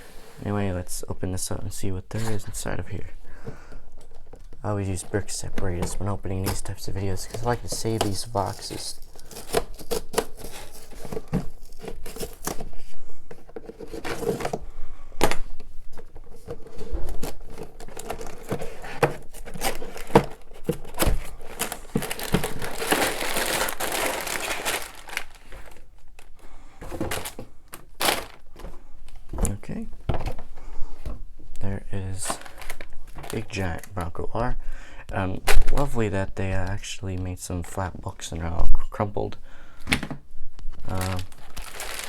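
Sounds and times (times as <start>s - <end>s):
plastic bags and paper rustling: 2.1s - 34.6s, 35.3s - 36.7s, 39.8s - 42.0s.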